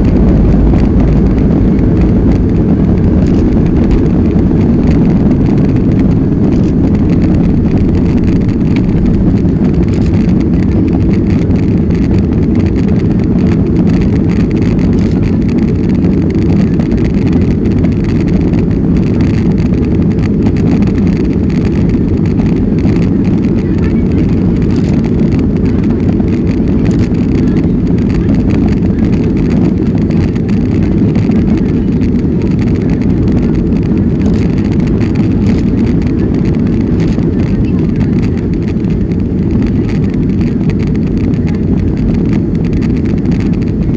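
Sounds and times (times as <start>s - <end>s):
jet airliner cabin rumble: 0.0s - 43.9s.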